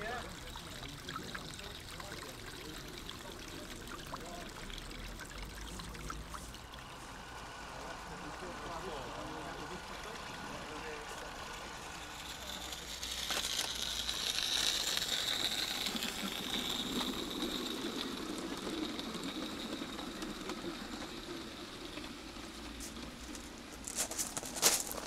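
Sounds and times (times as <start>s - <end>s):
model train rumbling on rails: 0.0s - 25.0s
steam hissing: 0.0s - 25.0s.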